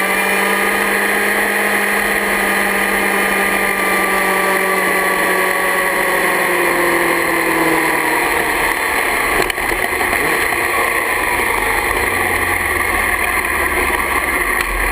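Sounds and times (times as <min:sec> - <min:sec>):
motorcycle engine: 0:00.0 - 0:14.9.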